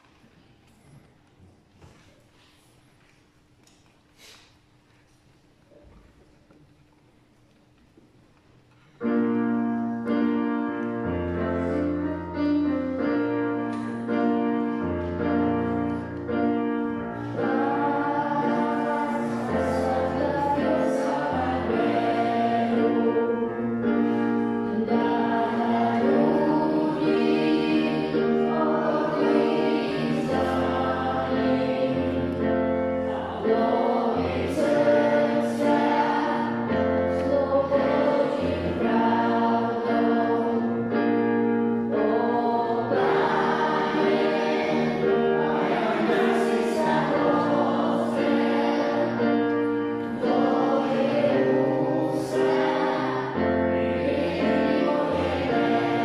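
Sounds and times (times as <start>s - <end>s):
children's choir singing: 9.0s - 56.0s.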